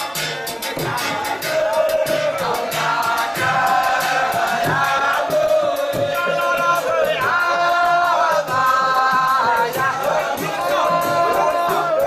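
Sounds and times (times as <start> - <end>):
devotional chant singing: 0.0 - 12.0
steady percussion beat: 0.0 - 12.0.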